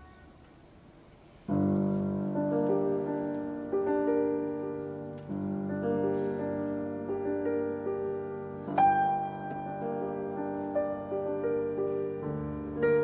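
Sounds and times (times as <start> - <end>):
grand piano chords: 0.0 - 13.0.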